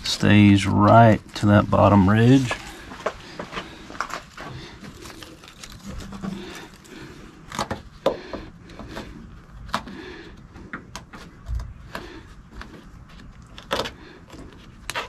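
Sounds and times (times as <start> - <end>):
hands working rubber seal: 1.8 - 15.0.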